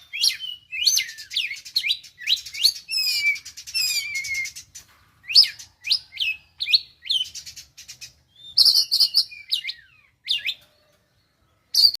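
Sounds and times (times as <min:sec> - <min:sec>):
bird singing sharp whistles: 0:00.0 - 0:10.6.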